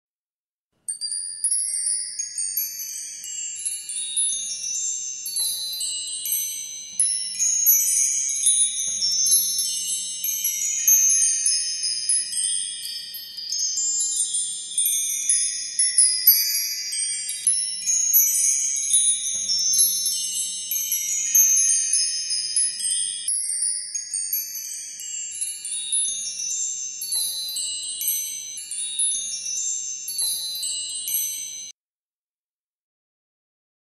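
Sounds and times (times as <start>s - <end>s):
wind chimes ringing: 0.9s - 31.8s.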